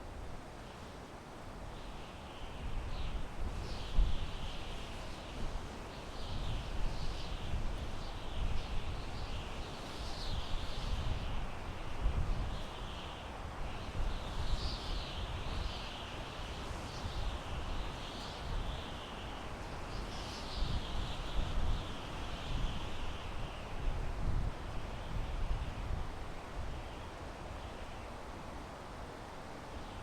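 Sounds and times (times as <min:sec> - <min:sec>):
wind through pine trees: 0:00.0 - 0:30.0.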